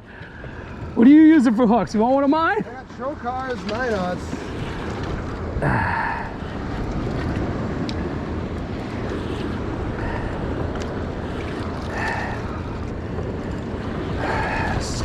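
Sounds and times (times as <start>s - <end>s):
sea water washing around boat: 0.0s - 15.0s
wind buffeting microphone: 0.0s - 15.0s.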